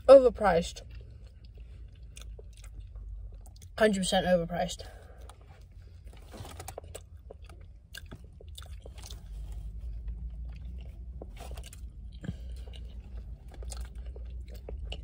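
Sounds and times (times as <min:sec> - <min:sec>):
person chewing wetly: 0:00.8 - 0:03.8, 0:05.2 - 0:15.0.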